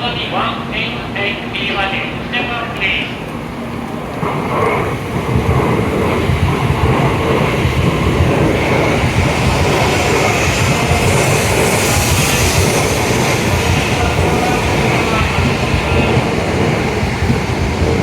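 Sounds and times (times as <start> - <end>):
train pulling out and accelerating: 0.0 - 18.0.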